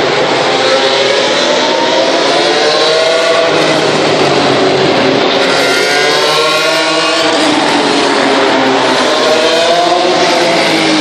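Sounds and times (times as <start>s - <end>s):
race car engines passing at speed: 0.0s - 11.0s.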